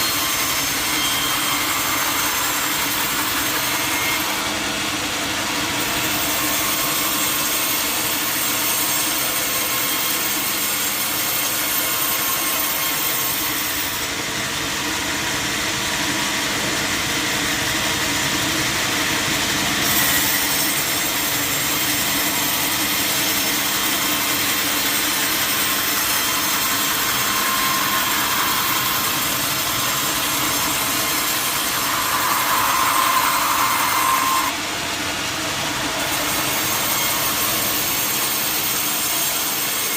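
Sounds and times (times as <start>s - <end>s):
sawmill saw cutting log: 0.0s - 14.3s, 19.1s - 34.7s, 35.5s - 39.9s.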